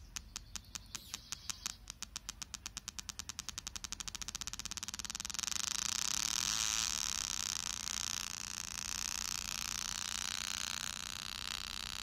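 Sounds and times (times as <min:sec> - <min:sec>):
oscillator clicking through speaker: 0:00.0 - 0:12.0
harsh hissy electronic buzz: 0:00.8 - 0:12.0.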